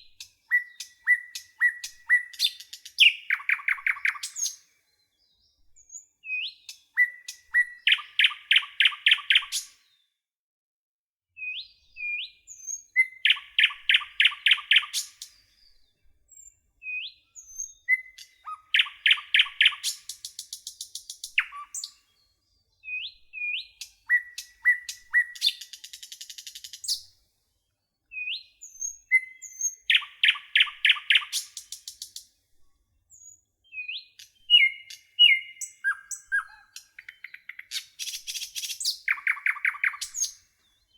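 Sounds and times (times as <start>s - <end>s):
nightingale singing: 0.0s - 9.8s, 11.4s - 27.1s, 28.0s - 32.3s, 33.1s - 40.9s.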